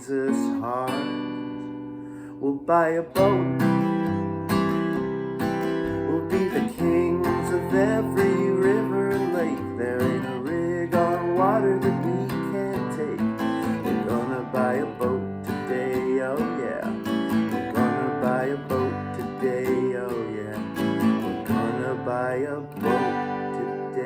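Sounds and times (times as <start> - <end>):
sliding guitar melody: 0.0 - 24.0
strummed acoustic guitar: 0.0 - 24.0.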